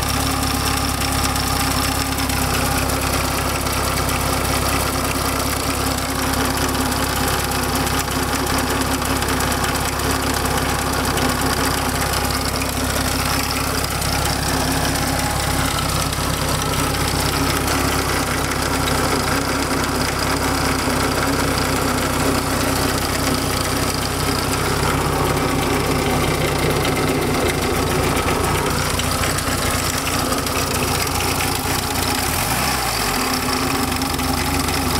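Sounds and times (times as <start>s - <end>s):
car engine idling: 0.0s - 34.9s
strange engine noise: 0.0s - 34.9s.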